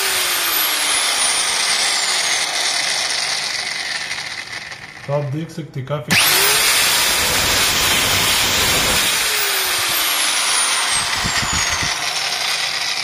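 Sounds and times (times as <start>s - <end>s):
angle grinder whine: 0.0s - 5.1s, 6.1s - 13.0s.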